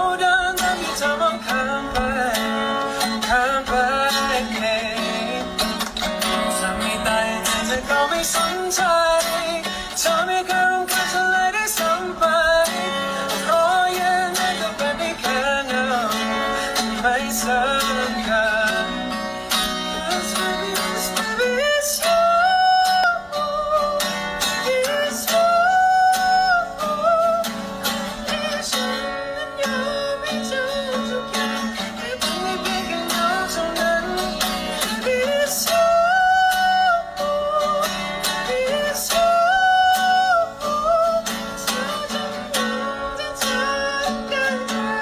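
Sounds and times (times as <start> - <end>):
acoustic guitar strumming: 0.0 - 45.0
man singing: 0.0 - 45.0.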